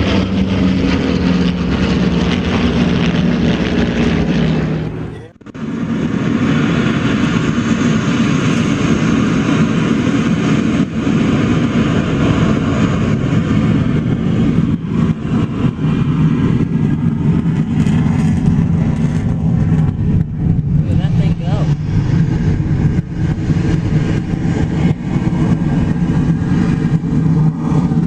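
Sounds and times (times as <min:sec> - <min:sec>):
aircraft engines flying past: 0:00.0 - 0:28.0.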